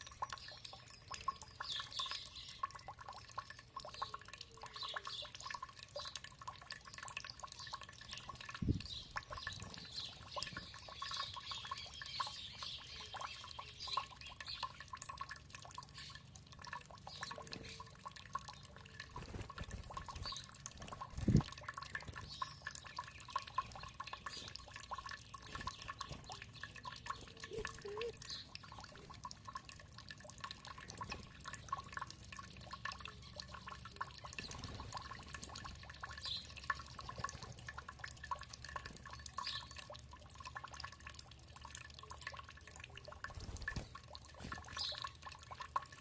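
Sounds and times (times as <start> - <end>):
songbirds chirping: 0.0 - 46.0
water trickling and dripping: 0.0 - 46.0.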